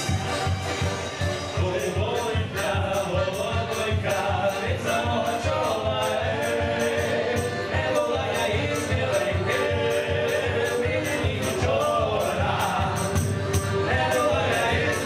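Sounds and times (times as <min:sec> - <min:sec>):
upright bass: 0:00.0 - 0:15.0
several voices singing together: 0:01.6 - 0:15.0.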